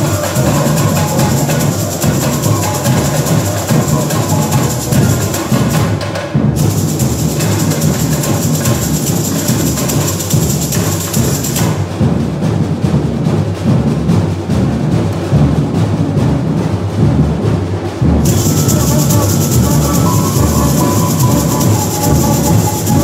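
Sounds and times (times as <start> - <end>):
bass drums beating: 0.0 - 23.0
fast snare and hand drums: 0.0 - 23.0
steady percussion rattle: 0.0 - 23.0.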